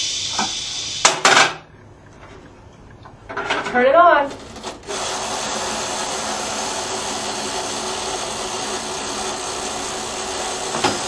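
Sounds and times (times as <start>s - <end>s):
washing machine motor whirring: 0.0s - 11.0s.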